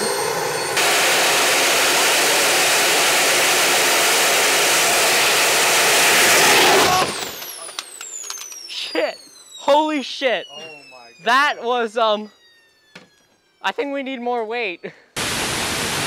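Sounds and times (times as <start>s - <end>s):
turbojet engine roar: 0.0s - 12.0s, 13.6s - 16.0s
turbine whine spooling down: 0.0s - 16.0s.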